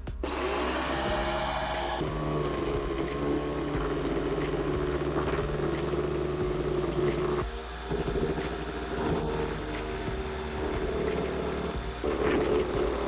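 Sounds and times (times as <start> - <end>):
machine motor humming: 0.0 - 13.0.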